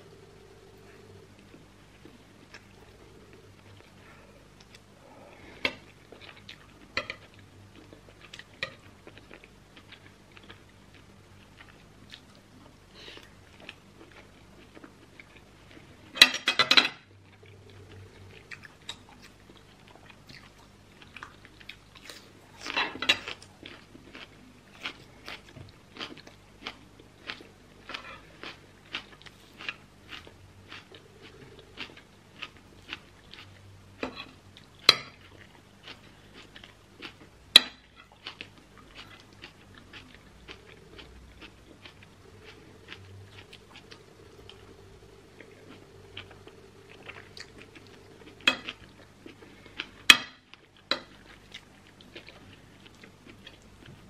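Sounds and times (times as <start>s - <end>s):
chewing food: 5.6s - 16.2s, 17.0s - 54.0s.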